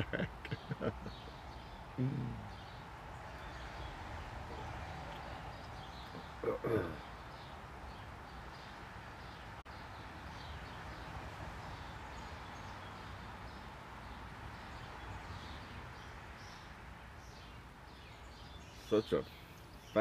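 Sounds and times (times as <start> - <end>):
birds chirping: 0.0 - 20.0
low outdoor hiss: 0.0 - 20.0.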